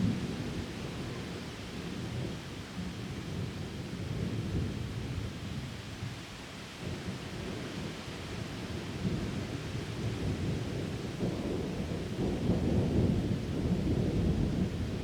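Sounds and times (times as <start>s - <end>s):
rain downpour: 0.0s - 15.0s.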